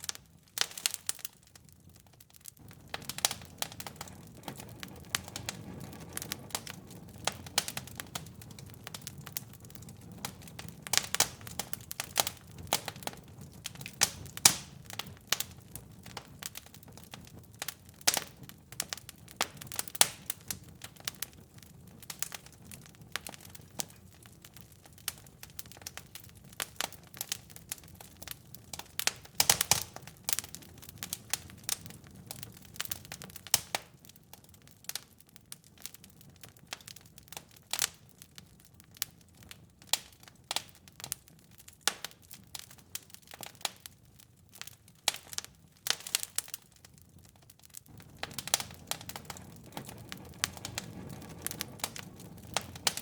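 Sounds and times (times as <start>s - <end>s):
wood fire crackling in fireplace: 0.0s - 53.0s.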